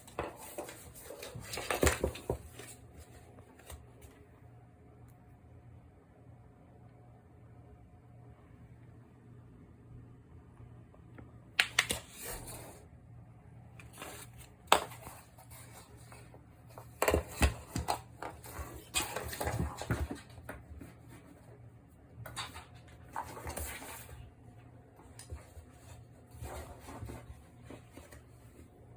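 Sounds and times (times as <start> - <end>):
faint low hum: 0.0 - 28.9.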